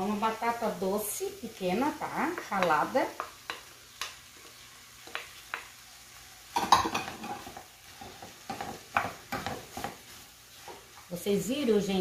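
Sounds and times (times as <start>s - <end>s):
wooden spoon stirring vegetables: 0.0s - 12.0s.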